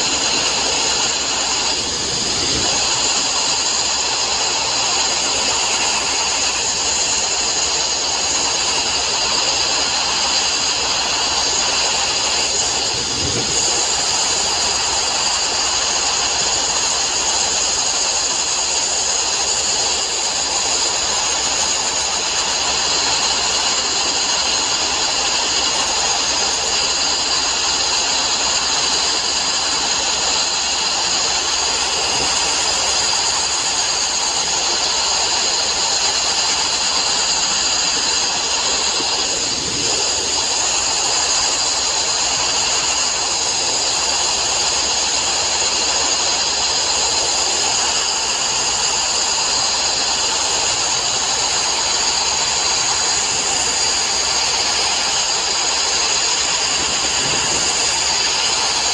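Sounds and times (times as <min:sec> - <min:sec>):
sandblasting hiss: 0:00.0 - 0:58.9.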